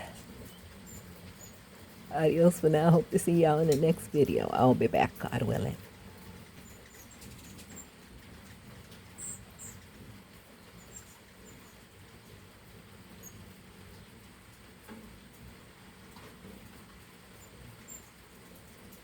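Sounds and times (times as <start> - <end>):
faint low background noise: 0.0 - 19.0.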